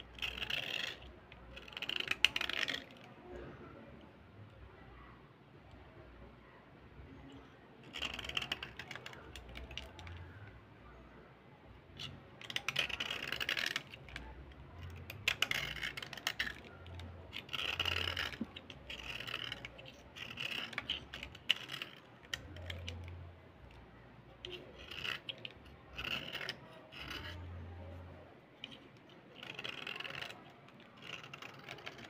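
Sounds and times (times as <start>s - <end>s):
blade scraping slate pencil: 0.0s - 3.8s, 7.2s - 10.5s, 11.8s - 32.0s.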